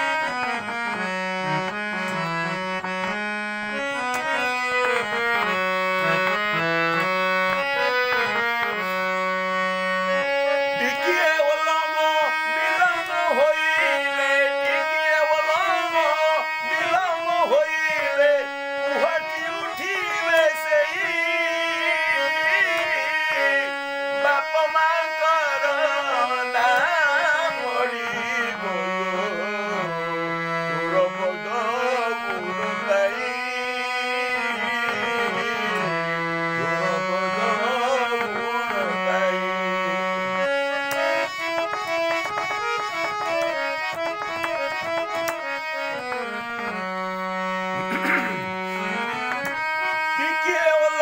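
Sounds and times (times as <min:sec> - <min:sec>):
harmonium folk melody: 0:00.0 - 0:51.0
man singing: 0:03.6 - 0:51.0.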